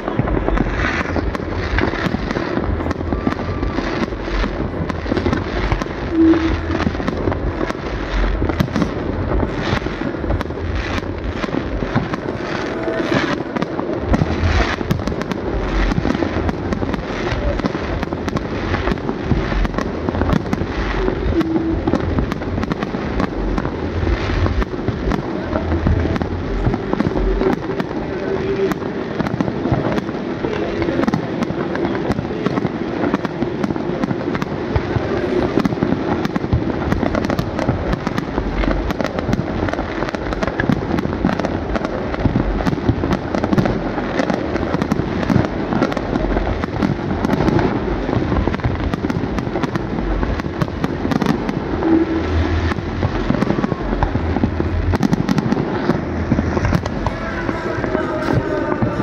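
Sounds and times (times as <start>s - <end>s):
deep firework booms: 0.0s - 59.0s
fireworks crackling and banging: 0.0s - 59.0s.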